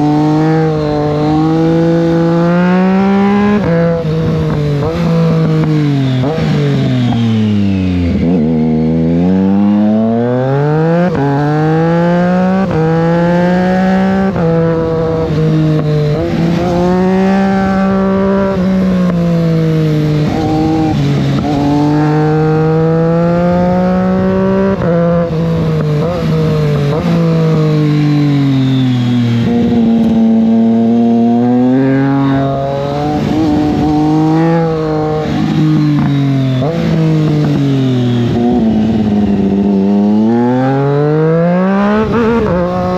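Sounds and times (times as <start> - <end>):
motorcycle engine shifting gears: 0.0 - 42.9.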